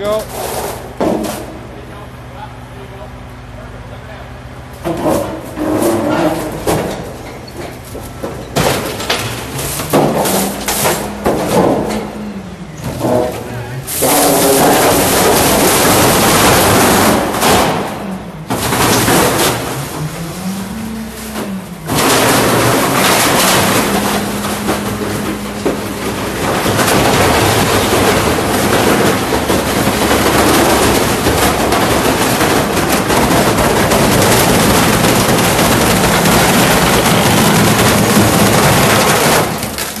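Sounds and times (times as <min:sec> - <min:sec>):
hydraulic packer cracking and crunching: 0:00.0 - 0:02.2, 0:04.6 - 0:40.0
garbage truck engine revving: 0:00.0 - 0:40.0.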